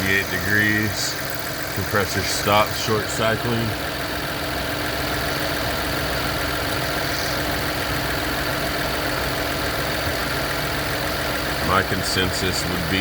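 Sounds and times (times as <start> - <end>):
ac compressor running: 0.0 - 13.0
car engine idling: 0.0 - 13.0.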